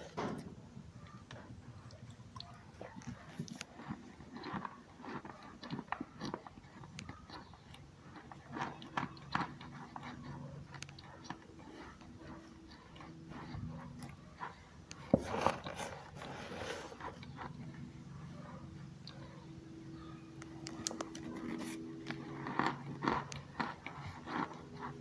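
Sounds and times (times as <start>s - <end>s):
biting and chewing crunchy chunks: 0.0s - 25.0s.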